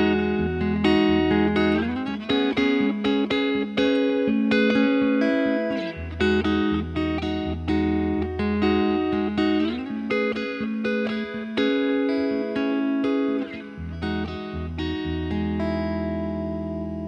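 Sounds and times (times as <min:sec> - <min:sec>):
clean electric guitar: 0:00.0 - 0:17.0.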